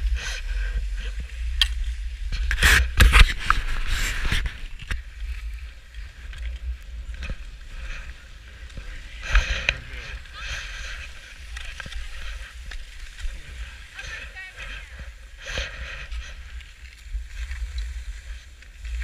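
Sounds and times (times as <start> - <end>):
skis scraping over snow: 0.0 - 19.0
wind rumbling on microphone: 0.0 - 19.0.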